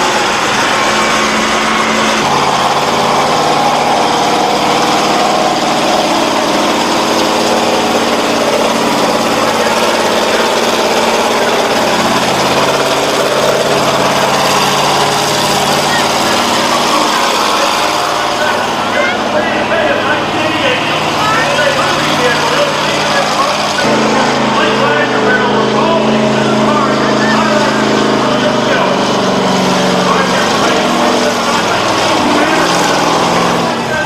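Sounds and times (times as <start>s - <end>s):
monster truck engines running: 0.0s - 34.0s.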